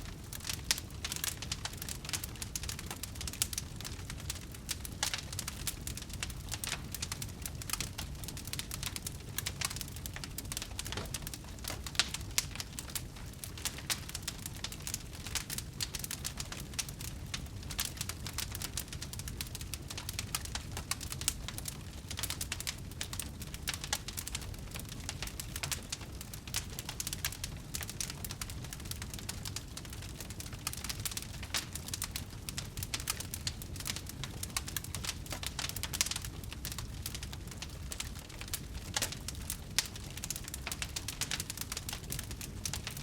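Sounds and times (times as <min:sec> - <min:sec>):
low rumble of flames: 0:00.0 - 0:43.0
wood crackling and popping: 0:00.0 - 0:43.0.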